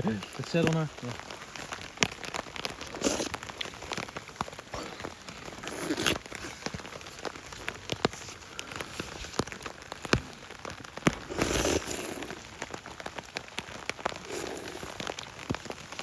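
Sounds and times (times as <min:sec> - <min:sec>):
rain tapping on tent fabric: 0:00.0 - 0:16.0
rustling: 0:00.2 - 0:16.0.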